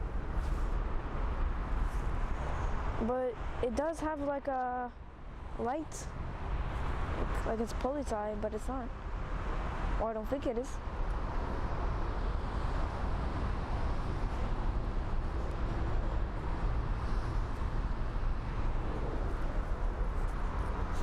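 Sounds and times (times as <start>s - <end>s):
low rumble of aircraft: 0.0s - 21.0s.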